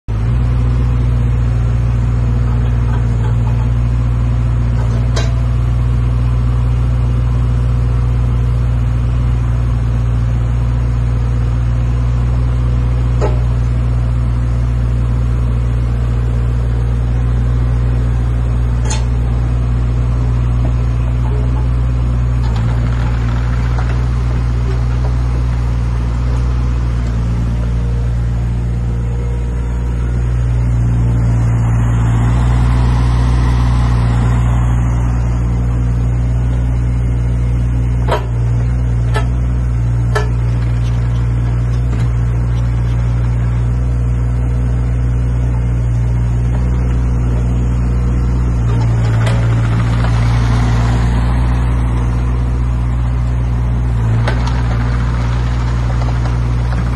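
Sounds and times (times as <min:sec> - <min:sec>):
excavator diesel engine running: 0:00.1 - 0:56.9
hydraulics whining: 0:00.2 - 0:56.9.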